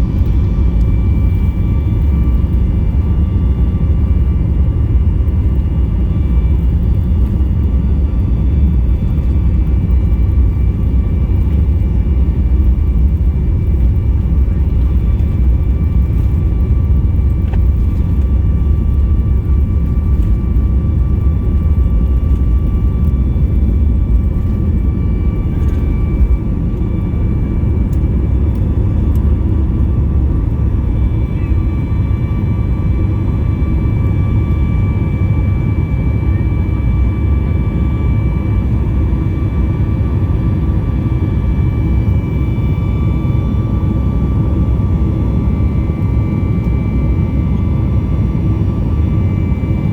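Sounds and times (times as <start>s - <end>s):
jet engine high whine: 0.0s - 49.9s
jet engine low rumble: 0.0s - 49.9s.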